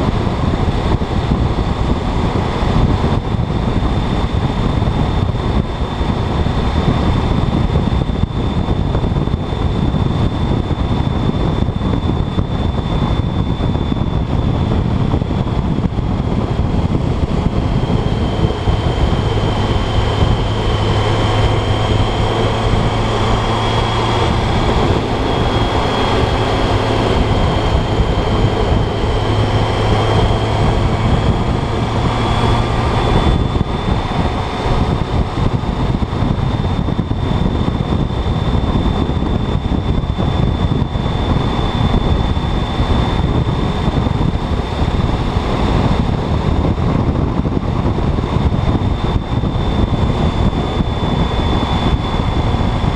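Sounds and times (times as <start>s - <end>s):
thin high whine: 0.0s - 46.2s
motorcycle engine hum: 0.0s - 52.9s
wind noise on microphone: 0.0s - 52.9s.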